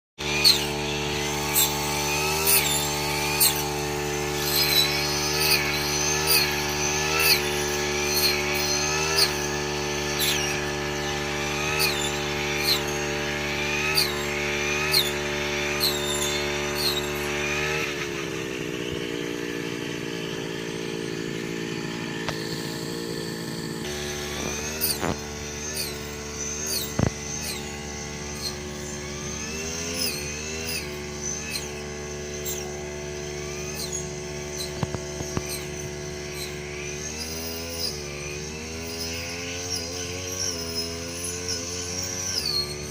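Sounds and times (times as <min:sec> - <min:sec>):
brush cutter engine cutting stalks: 0:00.2 - 0:42.9.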